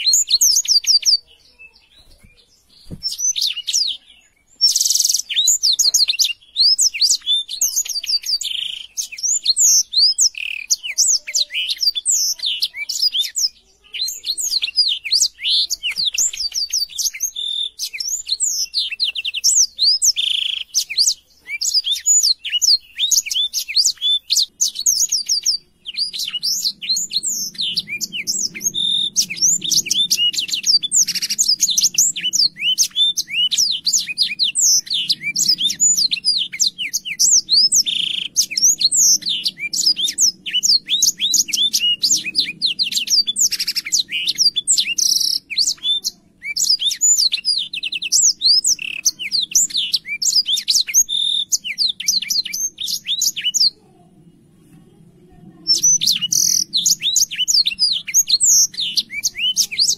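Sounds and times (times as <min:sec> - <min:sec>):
canary singing chirps and trills: 0:00.0 - 0:59.9.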